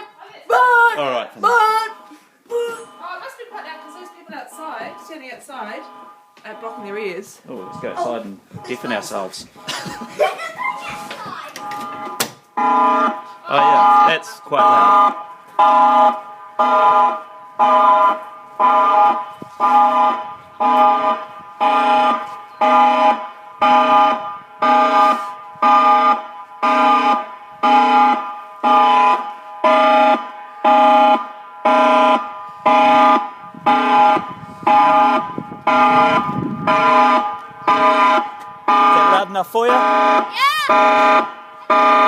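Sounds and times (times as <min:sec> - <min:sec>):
warning siren blasts: 0:00.0 - 0:42.0.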